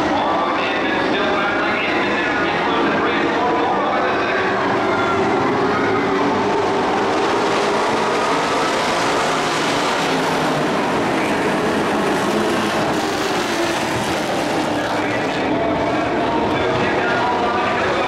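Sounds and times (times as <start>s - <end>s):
race truck engines droning: 0.0s - 18.0s.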